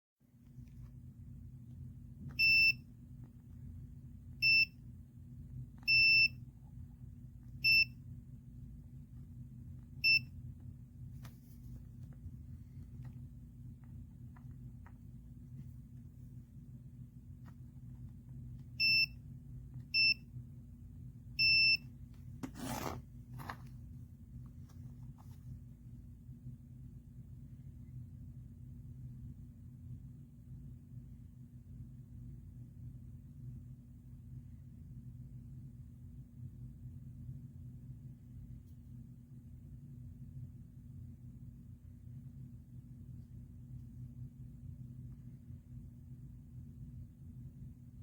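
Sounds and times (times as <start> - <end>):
steady low hum: 0.3 - 48.0.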